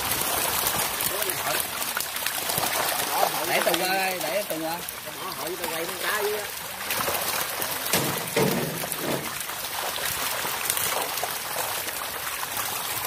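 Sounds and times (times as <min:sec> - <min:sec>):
fish thrashing and splashing: 0:00.0 - 0:13.0.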